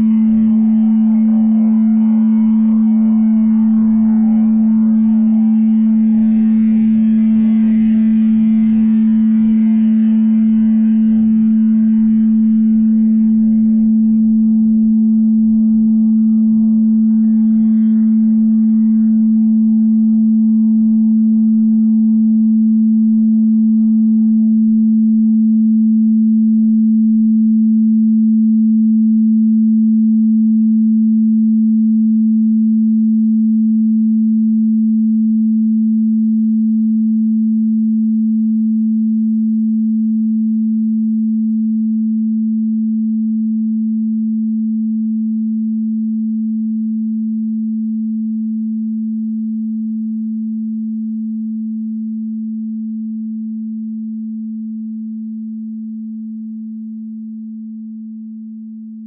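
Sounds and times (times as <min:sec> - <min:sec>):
low electronic tone: 0:00.0 - 0:59.0.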